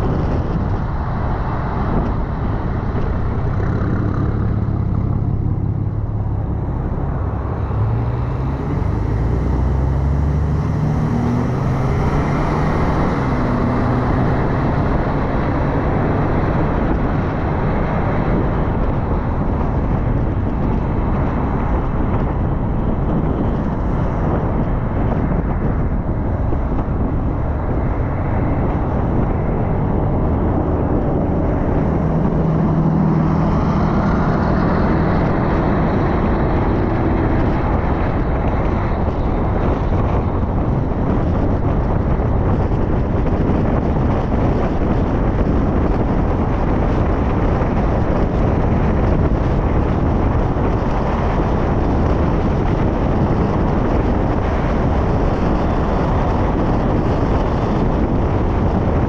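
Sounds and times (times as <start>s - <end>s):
car engine hum: 0.0s - 59.0s
tyre and road noise: 0.0s - 59.0s.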